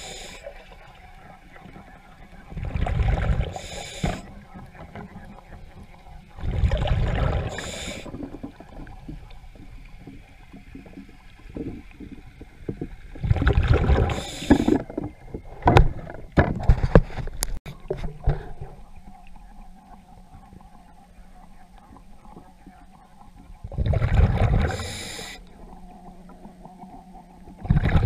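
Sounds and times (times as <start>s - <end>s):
muffled underwater water movement: 0.0s - 28.0s.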